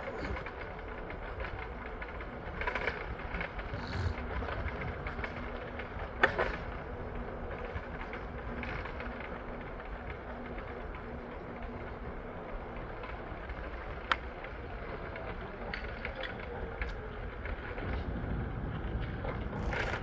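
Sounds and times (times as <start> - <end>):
vehicle and street noise: 0.0 - 20.0.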